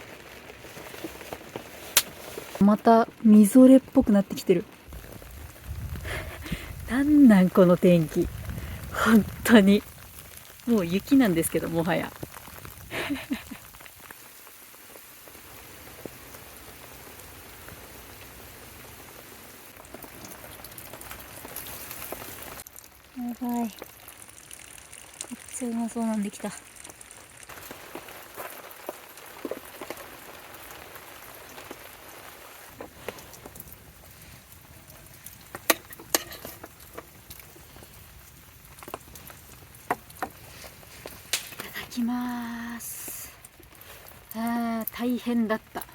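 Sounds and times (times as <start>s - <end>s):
rain and sleet pattering: 0.0s - 45.9s.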